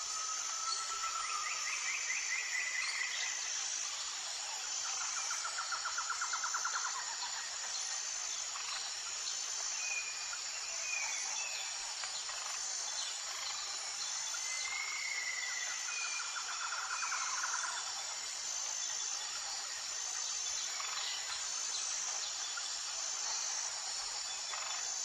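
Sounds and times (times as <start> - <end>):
pulsing insect chorus: 0.0 - 25.0
rapid insect trill: 0.0 - 25.0.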